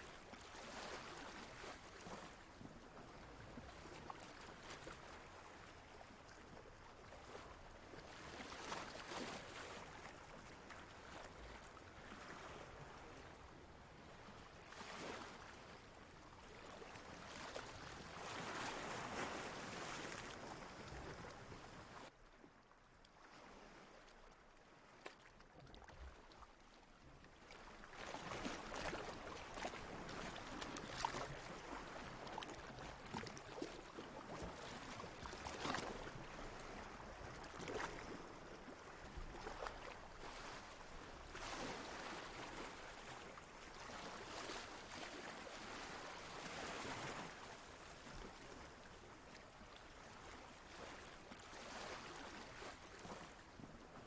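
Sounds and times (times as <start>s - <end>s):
water lapping and splashing: 0.0s - 54.0s.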